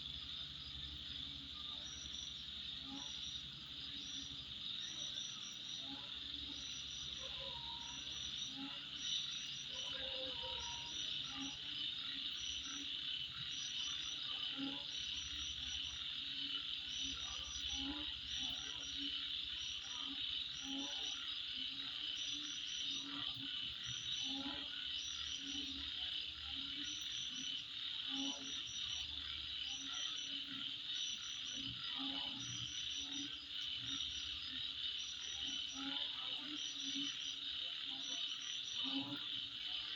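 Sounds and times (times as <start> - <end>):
insect chirps: 0.0 - 39.9.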